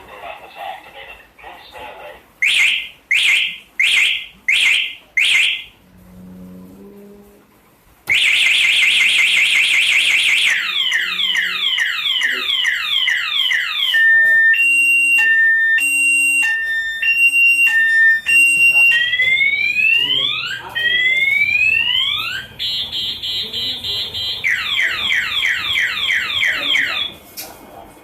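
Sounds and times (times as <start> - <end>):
alarm chirps: 2.4 - 5.8, 8.1 - 27.2.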